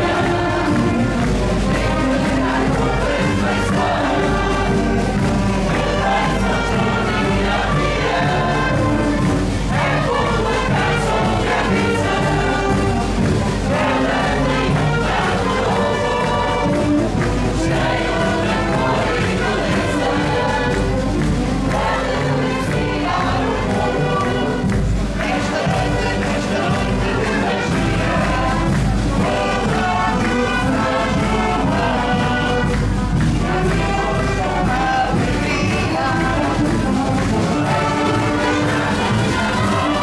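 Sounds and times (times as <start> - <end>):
group singing in chorus: 0.0 - 40.0
live band playing: 0.0 - 40.0.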